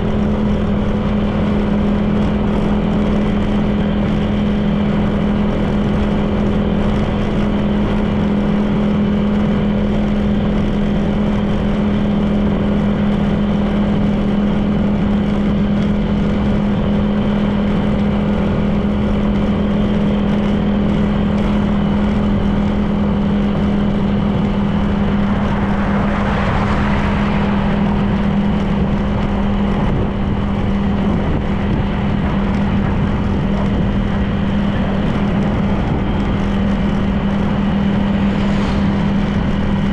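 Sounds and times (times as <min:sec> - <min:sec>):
road and wind rush: 0:00.0 - 0:39.9
scooter engine cruising: 0:00.0 - 0:39.9.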